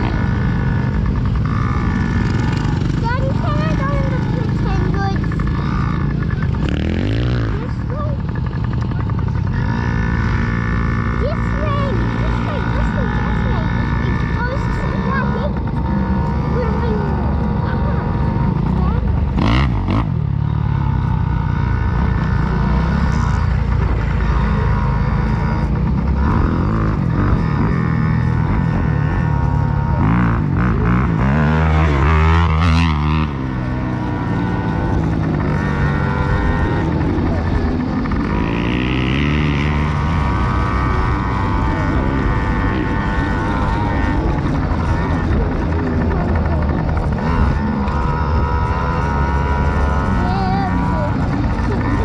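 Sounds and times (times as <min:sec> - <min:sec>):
small dirt bike engine running: 0:00.0 - 0:52.0.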